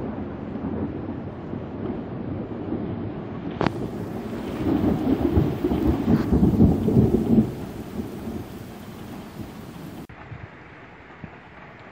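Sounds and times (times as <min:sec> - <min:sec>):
thunder rolling: 0:00.0 - 0:11.6.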